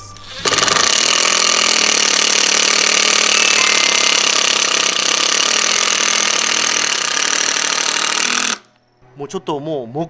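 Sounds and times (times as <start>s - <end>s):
impact driver driving screw: 0.4s - 8.7s.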